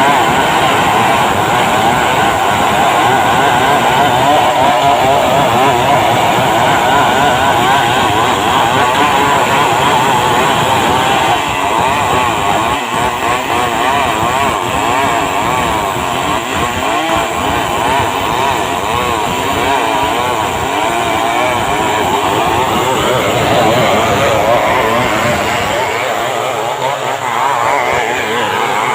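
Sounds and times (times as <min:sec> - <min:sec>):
chainsaw ripping a log: 0:00.0 - 0:28.9.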